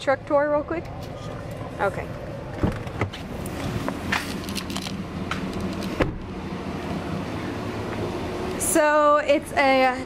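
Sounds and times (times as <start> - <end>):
low hum inside truck cab: 0.0 - 10.0.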